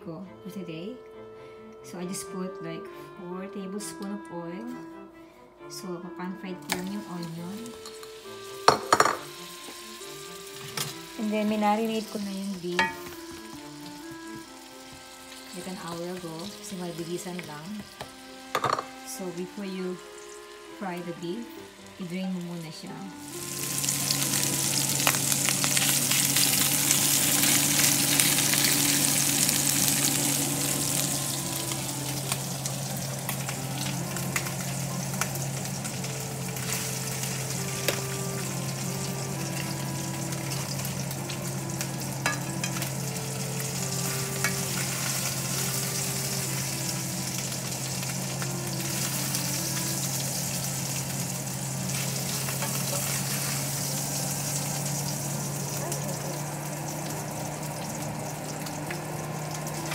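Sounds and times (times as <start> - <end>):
meat sizzling in a frying pan: 6.7 - 22.0, 22.6 - 59.9.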